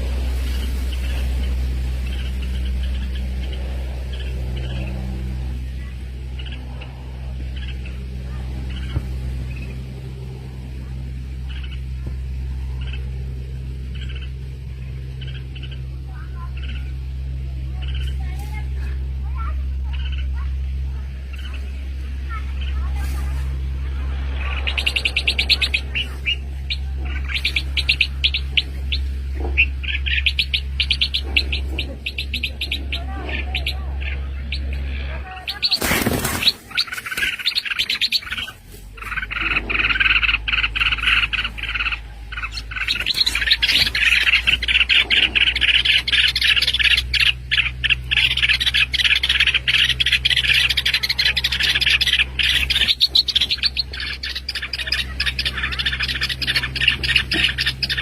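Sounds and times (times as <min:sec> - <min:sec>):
small birds chirping: 0:00.0 - 0:58.0
steady low hum: 0:00.0 - 0:58.0.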